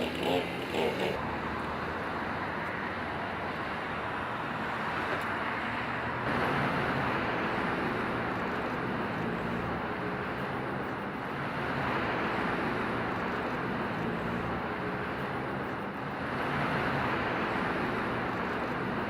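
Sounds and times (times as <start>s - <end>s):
outdoor rushing noise: 0.0s - 19.0s.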